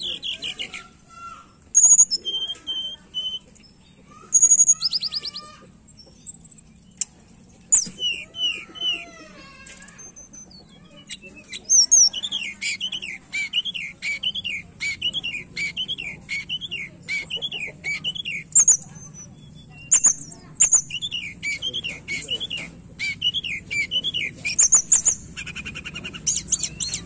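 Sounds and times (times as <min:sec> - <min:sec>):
bird singing: 0:00.0 - 0:27.0.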